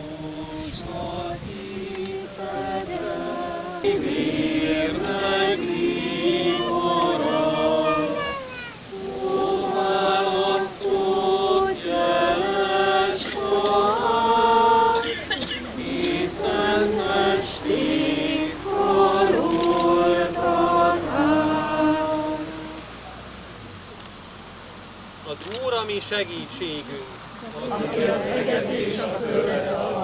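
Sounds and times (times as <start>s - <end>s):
congregation singing a hymn: 0.0s - 22.9s, 27.5s - 30.0s.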